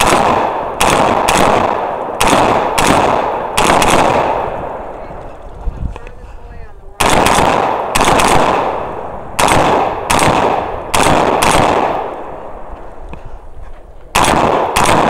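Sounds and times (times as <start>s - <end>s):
rifle shots echoing: 0.0s - 5.5s, 7.0s - 13.1s, 14.1s - 15.0s.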